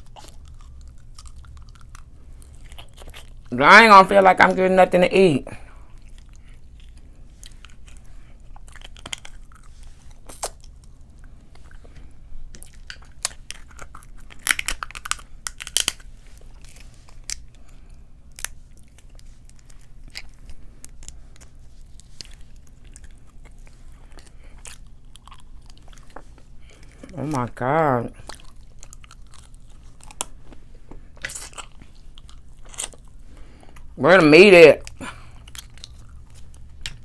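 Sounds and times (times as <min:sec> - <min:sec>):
wet chewing clicks and crunches: 0:00.0 - 0:03.6, 0:05.6 - 0:37.0.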